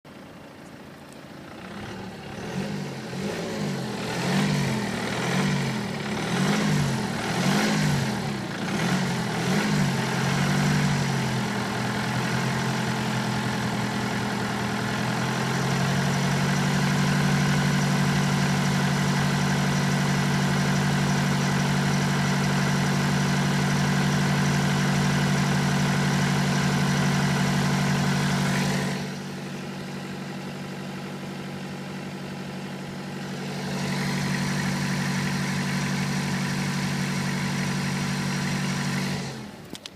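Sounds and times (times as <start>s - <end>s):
diesel engine revving: 1.4s - 39.8s.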